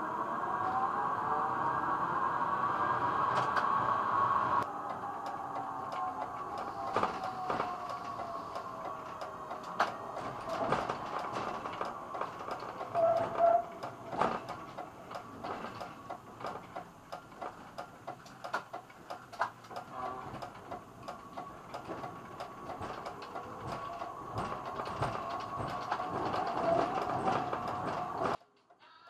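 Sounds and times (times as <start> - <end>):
tram rolling over track: 0.0 - 28.4.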